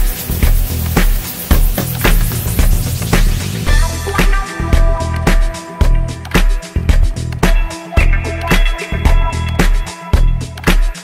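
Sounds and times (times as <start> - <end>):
heavy kick drum: 0.0 - 11.0
deep bass line: 0.3 - 10.7.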